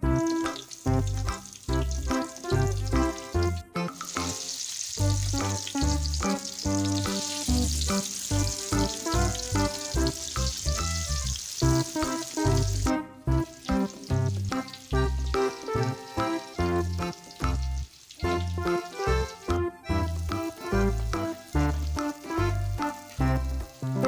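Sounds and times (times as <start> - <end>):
background music with steady beat: 0.0 - 24.0
fritters deep-frying in oil: 0.0 - 24.0.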